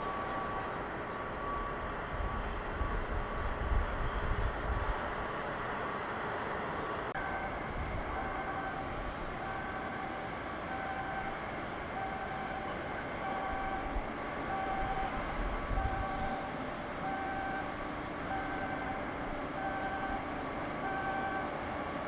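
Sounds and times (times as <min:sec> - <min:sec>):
outdoor machinery or traffic din: 0:00.0 - 0:22.0.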